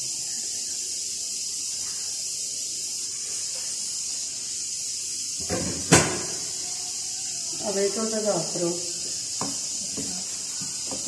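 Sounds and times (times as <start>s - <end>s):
curry simmering and sizzling in a pan: 0.0s - 11.0s.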